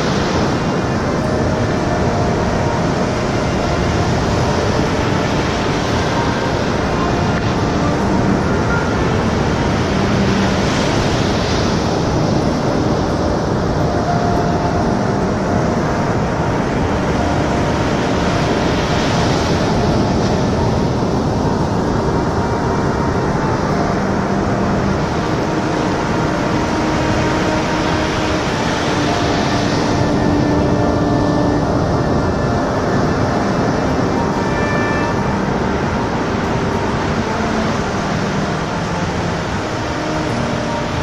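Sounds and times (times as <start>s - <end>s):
ocean waves rushing: 0.0s - 41.0s.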